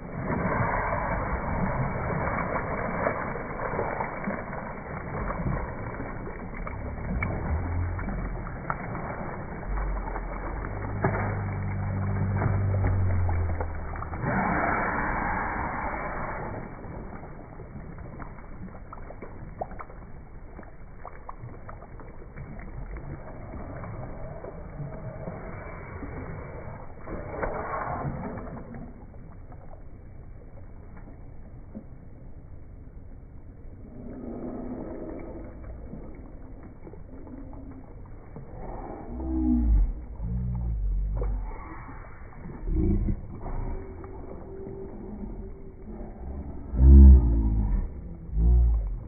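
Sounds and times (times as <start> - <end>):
steady low rumble: 0.0 - 49.0
water splashing in a pool: 0.0 - 49.0.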